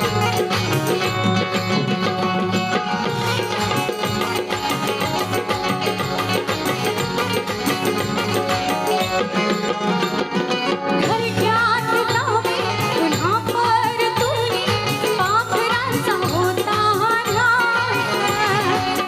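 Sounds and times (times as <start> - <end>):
drums beating a steady rhythm: 0.0 - 19.0.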